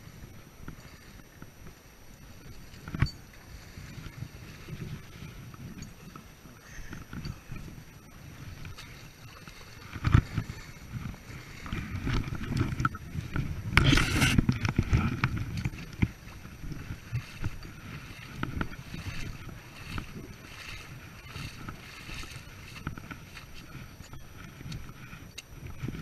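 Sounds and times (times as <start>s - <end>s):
feet splashing through stream: 0.0s - 26.0s.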